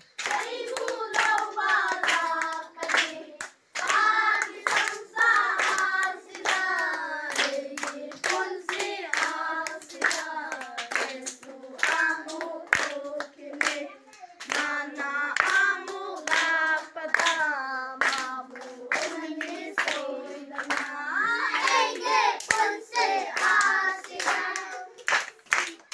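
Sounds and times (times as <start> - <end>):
hand clapping in time: 0.0 - 14.8, 15.4 - 21.0, 21.6 - 25.9
children singing together: 0.0 - 25.3.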